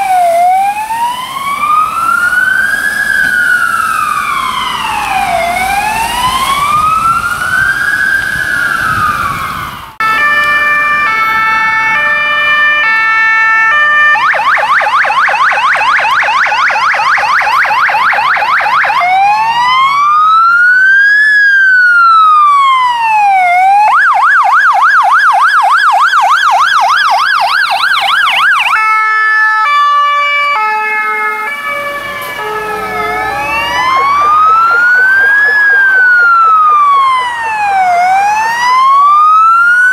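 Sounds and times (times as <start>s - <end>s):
fire engine siren: 0.0s - 39.9s.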